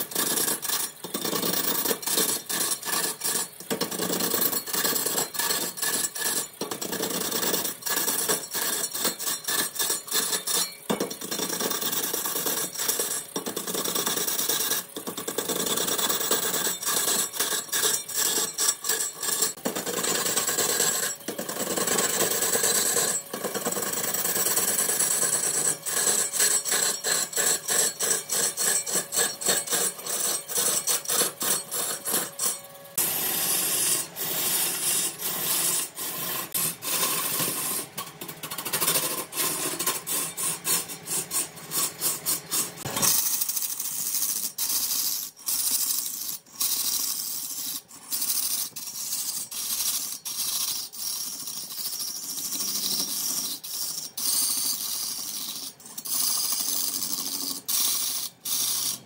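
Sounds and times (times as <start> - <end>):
lathe tool scraping wood: 0.0 - 43.2, 45.0 - 59.0.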